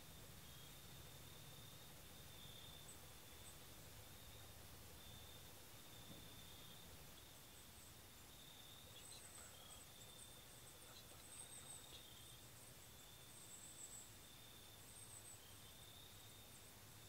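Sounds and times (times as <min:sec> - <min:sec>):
faint high buzz: 0:00.0 - 0:17.0.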